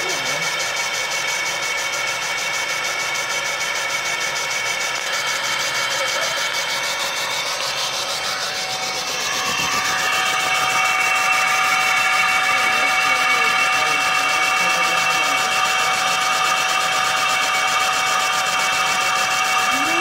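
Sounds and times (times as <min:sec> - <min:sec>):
high whining tones: 0:00.0 - 0:20.0
laser engraver buzzing hiss: 0:03.6 - 0:20.0.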